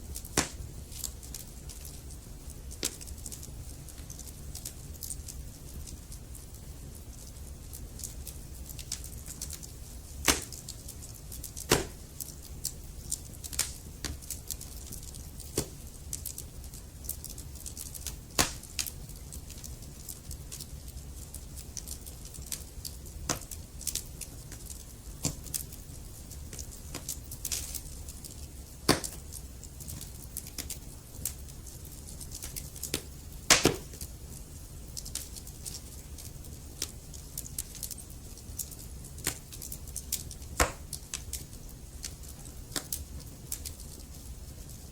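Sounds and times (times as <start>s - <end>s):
low fire rumble: 0.0s - 44.9s
wood fire crackling and popping: 0.0s - 44.9s.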